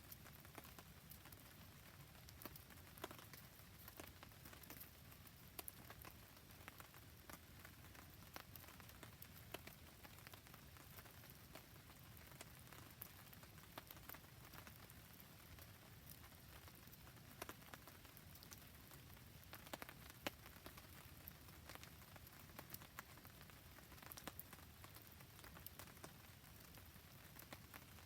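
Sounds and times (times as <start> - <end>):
campfire crackling ticks: 0.0 - 28.0
faint rain falling: 0.0 - 28.0.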